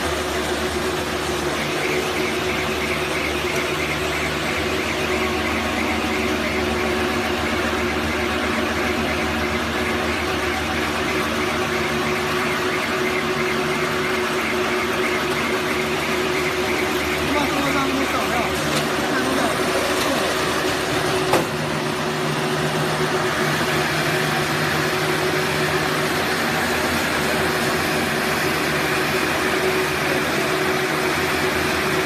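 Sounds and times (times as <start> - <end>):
baler machine hum: 0.0 - 32.0.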